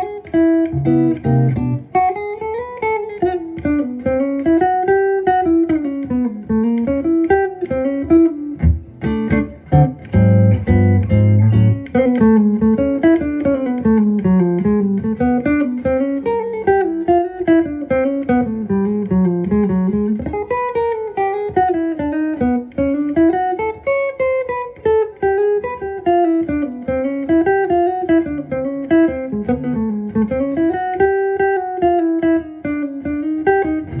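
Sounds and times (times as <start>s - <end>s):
electric guitar melodic runs: 0.0s - 34.0s.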